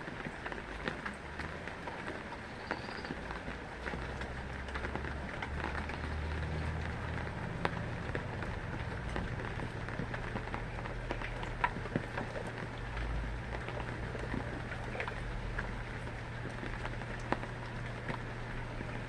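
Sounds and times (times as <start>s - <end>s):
rain tapping on hard surface: 0.0s - 19.0s.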